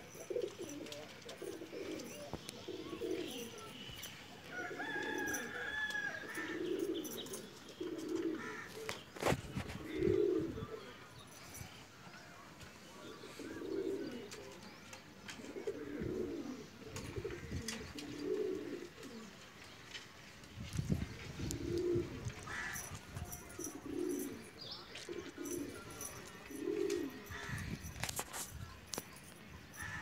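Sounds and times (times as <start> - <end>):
pigeons cooing: 0.0 - 12.0, 13.0 - 19.4, 20.8 - 30.0.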